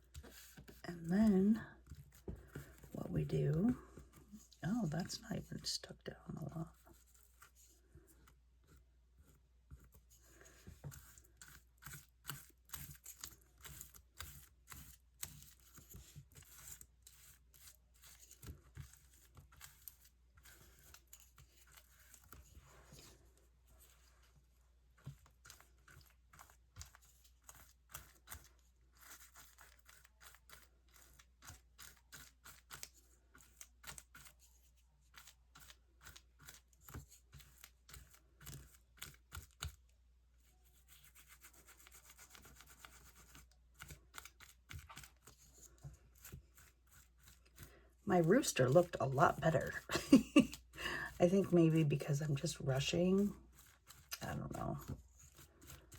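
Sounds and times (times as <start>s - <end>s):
scratchy strokes on paper: 0.0s - 3.0s, 6.6s - 39.7s, 40.5s - 49.9s, 50.5s - 55.9s.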